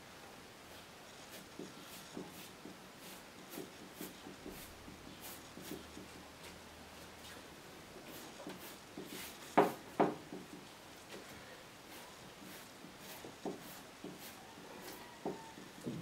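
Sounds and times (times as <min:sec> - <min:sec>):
paintbrush swishing on canvas: 0:00.7 - 0:09.8, 0:11.9 - 0:15.7.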